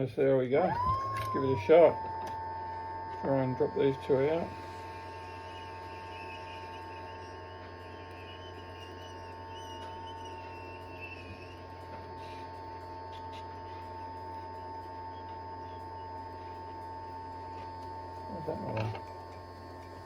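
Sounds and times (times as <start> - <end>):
hot air station hum and whine: 0.0 - 20.0.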